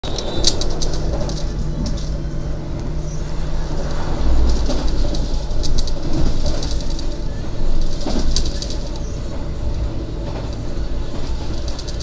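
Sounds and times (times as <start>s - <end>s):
train wheels rumbling on rails: 0.0s - 12.0s
wheels clicking over rail joints: 0.0s - 12.0s.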